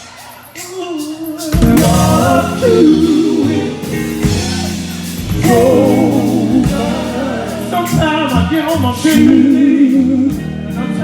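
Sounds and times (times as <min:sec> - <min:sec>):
band with drums: 0:00.0 - 0:11.0
voices singing gospel: 0:00.0 - 0:11.0.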